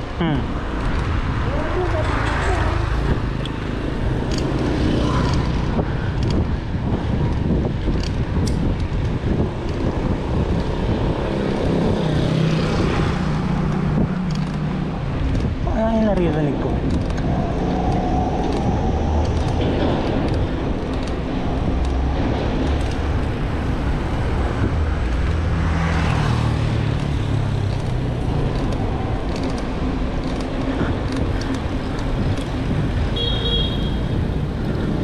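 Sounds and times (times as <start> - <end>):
road traffic passing: 0.0 - 35.0
loud vehicle passing: 0.2 - 8.3, 9.1 - 15.6, 16.5 - 33.2.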